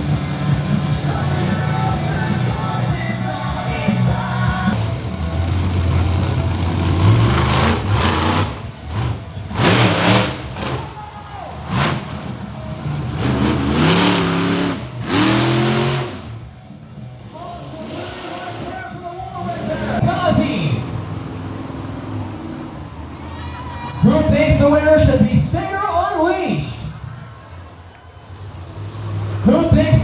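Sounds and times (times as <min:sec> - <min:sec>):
truck engines revving: 0:00.0 - 0:23.2, 0:26.8 - 0:30.0.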